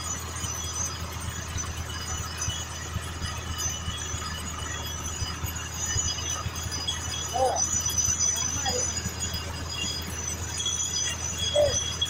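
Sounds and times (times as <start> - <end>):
drilling rig low drone: 0.0 - 12.0
faint high clinks: 0.0 - 12.0.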